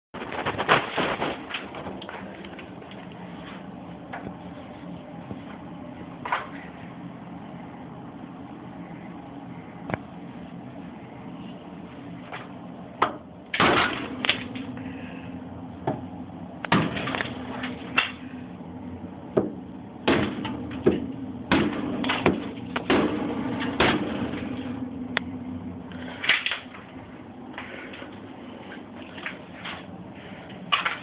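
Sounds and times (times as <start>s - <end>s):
steady low hum: 0.2s - 31.0s.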